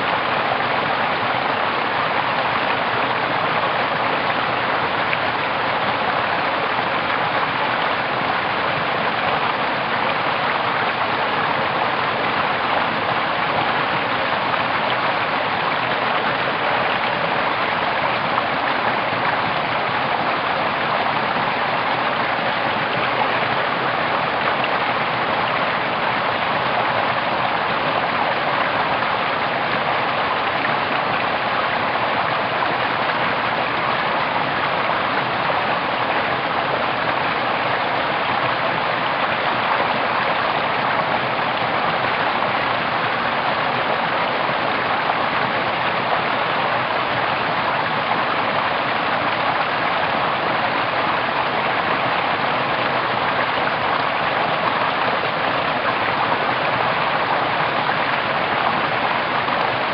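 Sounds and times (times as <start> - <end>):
stream splashing over rocks: 0.0 - 59.9.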